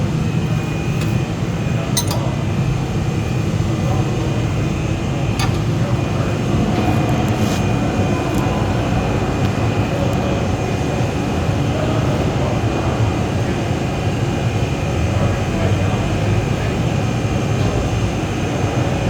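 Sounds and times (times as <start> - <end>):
lathe humming with high whine: 0.0 - 19.0.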